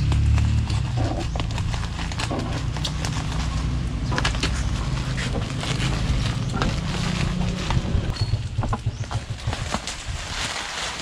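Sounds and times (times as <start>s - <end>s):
plastic packaging crinkling: 0.0s - 8.2s, 9.2s - 11.0s
low steady rumble: 0.0s - 10.9s.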